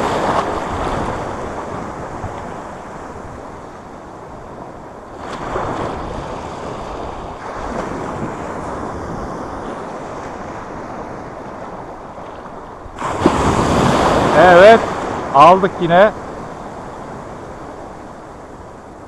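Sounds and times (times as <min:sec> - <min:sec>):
small waves breaking: 0:00.0 - 0:19.0
wind noise on microphone: 0:00.0 - 0:19.0.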